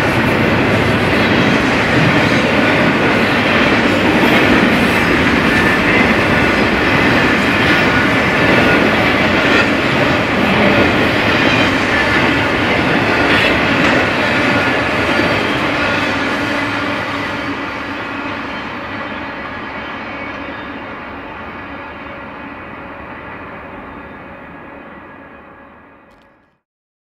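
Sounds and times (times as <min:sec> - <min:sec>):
freight train cars rolling past: 0:00.0 - 0:26.5.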